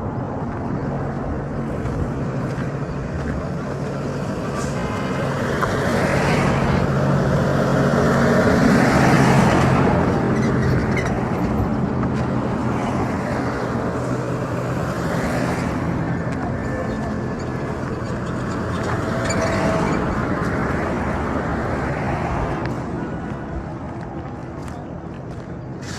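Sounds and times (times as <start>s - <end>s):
engine hum: 0.0s - 25.9s
vehicles passing: 0.0s - 25.9s.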